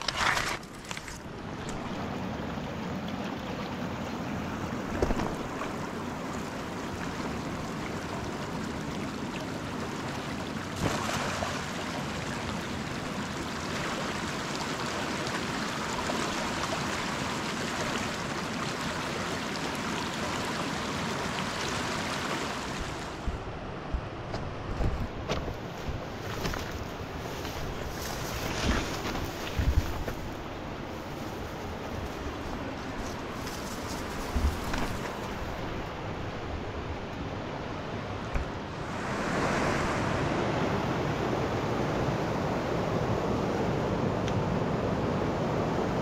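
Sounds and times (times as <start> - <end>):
river water rushing: 0.0 - 23.3, 26.9 - 46.0.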